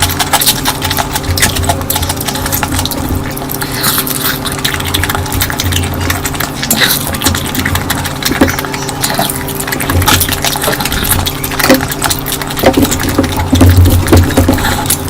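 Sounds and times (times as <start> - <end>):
steady low hum: 0.0 - 15.0
wet chewing sounds: 0.0 - 15.0.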